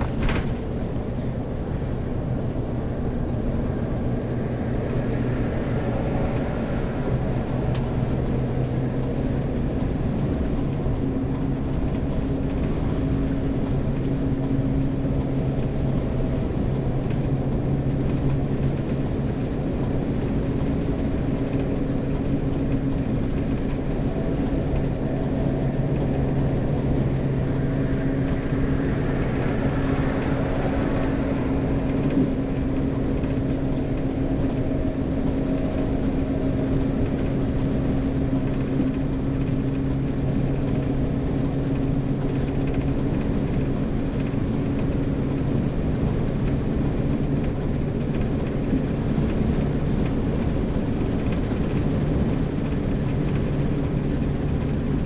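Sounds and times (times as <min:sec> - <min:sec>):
road noise: 0:00.0 - 0:55.0
van engine running: 0:00.0 - 0:55.0.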